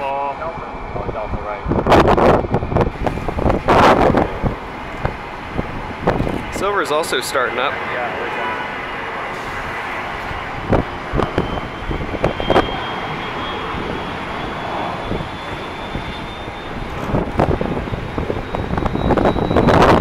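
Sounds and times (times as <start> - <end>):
aircraft turbine engines running: 0.0 - 20.0.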